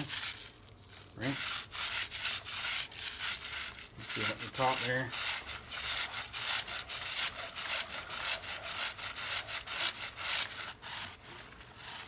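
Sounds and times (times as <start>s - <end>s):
brush scrubbing a chain: 0.0s - 12.0s.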